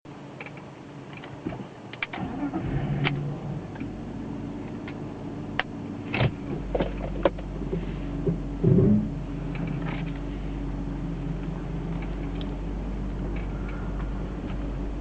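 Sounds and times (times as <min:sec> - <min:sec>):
car engine starting and idling: 0:00.4 - 0:15.0.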